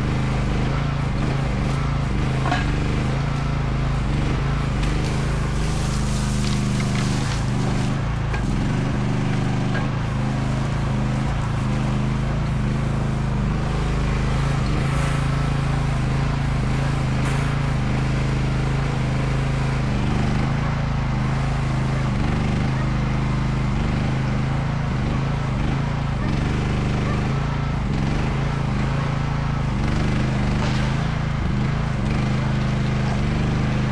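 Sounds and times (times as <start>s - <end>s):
excavator engine running: 0.0s - 33.9s.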